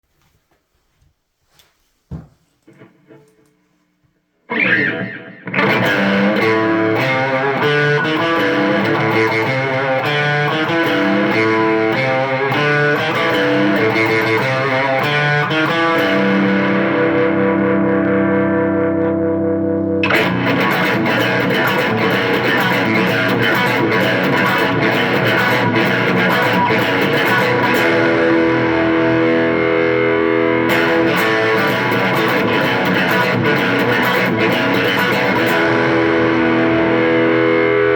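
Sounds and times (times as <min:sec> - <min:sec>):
distorted electric guitar riff: 0:04.5 - 0:37.9.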